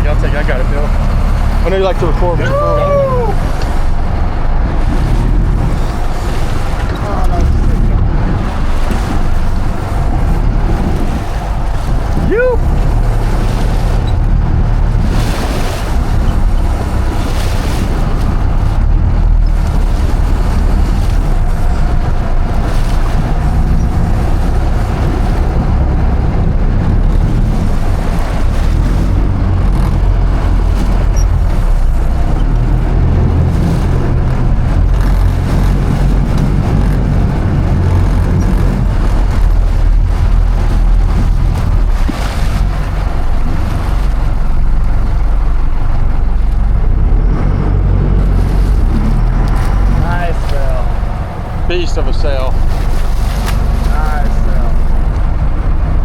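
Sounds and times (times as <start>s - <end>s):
boat engine running: 0.0s - 56.0s
water rushing past hull: 0.0s - 56.0s
wind buffeting microphone: 0.0s - 56.0s.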